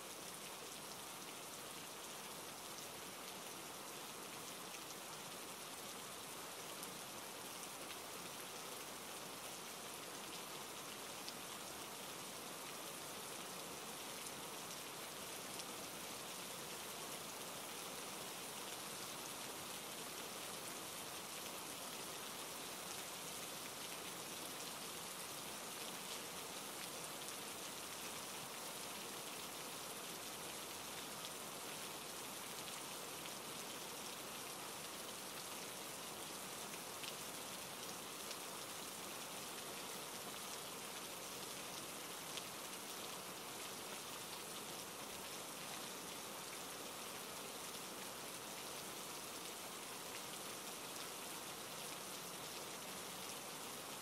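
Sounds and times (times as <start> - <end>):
steady rain falling: 0.0 - 54.0
rain drops ticking: 0.1 - 54.0.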